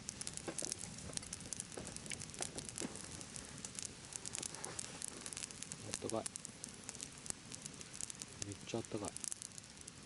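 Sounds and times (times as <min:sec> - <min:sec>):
campfire crackling and popping: 0:00.0 - 0:10.0
fire hissing: 0:00.0 - 0:10.0.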